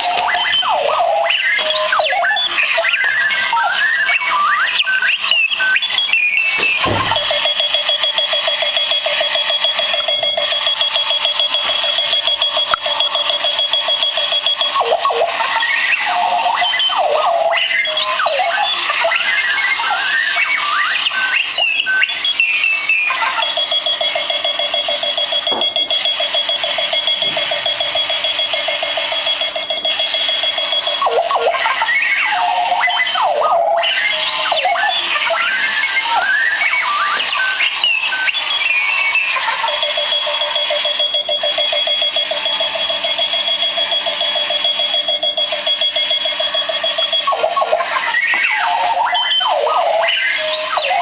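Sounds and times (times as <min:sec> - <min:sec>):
alarm clock beeping: 0:00.0 - 0:51.0
warbling chirping bleeps: 0:00.0 - 0:51.0.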